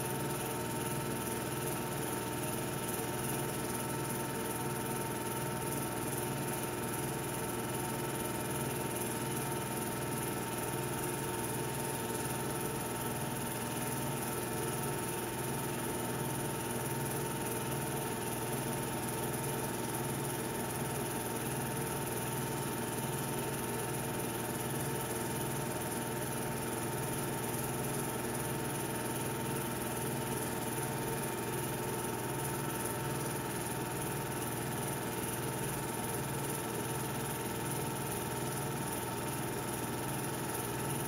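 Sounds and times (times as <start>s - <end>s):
film projector whirring: 0.0s - 41.0s.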